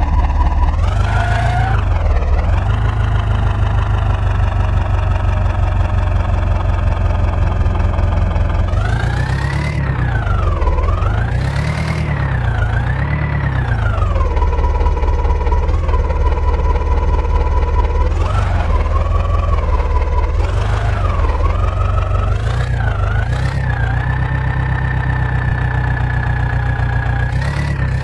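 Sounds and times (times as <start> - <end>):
diesel engine running and revving: 0.0 - 28.0.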